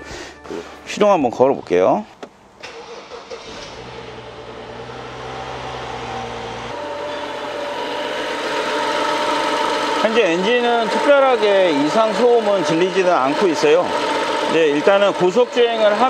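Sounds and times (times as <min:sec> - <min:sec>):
car engine starting and idling: 0:01.5 - 0:16.0.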